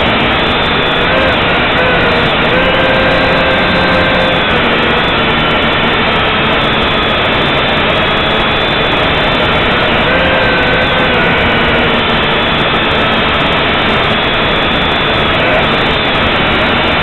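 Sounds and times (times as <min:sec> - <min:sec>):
drone motors whining: 0:00.0 - 0:17.0
loud rushing noise: 0:00.0 - 0:17.0.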